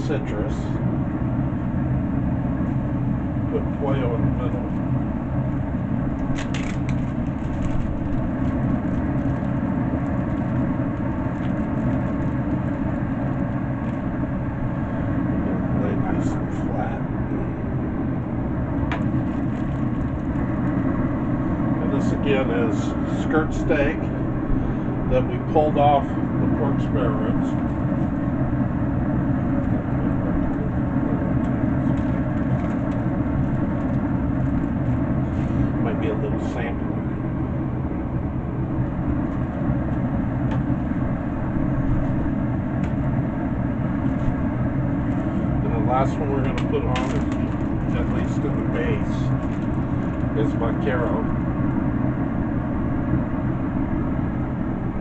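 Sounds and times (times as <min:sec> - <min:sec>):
low rumble: 0:00.0 - 0:55.0
steady low rushing noise: 0:00.0 - 0:55.0.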